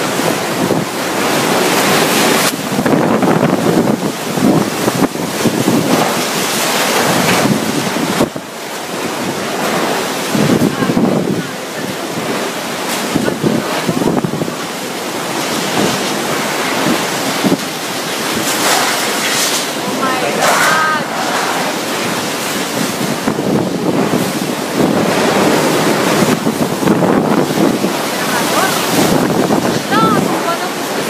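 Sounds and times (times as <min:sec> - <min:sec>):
strong wind gusts through trees: 0:00.0 - 0:31.0
wind-driven rain: 0:00.0 - 0:31.0.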